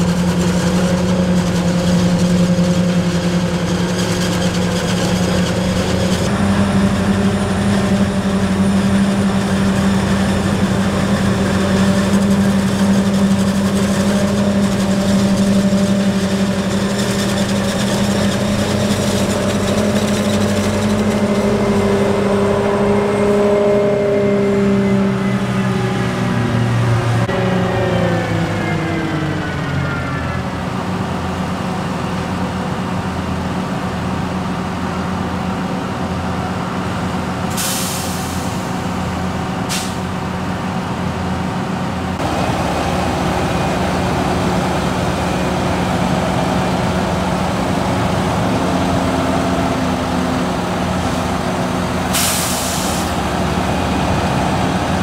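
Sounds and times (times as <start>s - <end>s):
diesel engine running at high revs: 0.0s - 55.0s.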